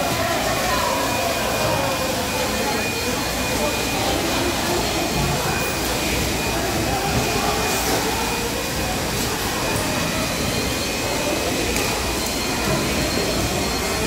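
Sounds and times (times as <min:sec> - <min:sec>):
machinery drone with high whine: 0:00.0 - 0:14.0.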